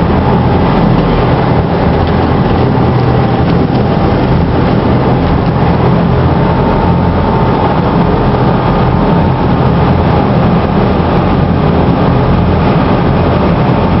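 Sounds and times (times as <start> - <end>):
boat engine running: 0.0 - 14.0
water noise: 0.0 - 14.0
wind rushing: 0.0 - 14.0.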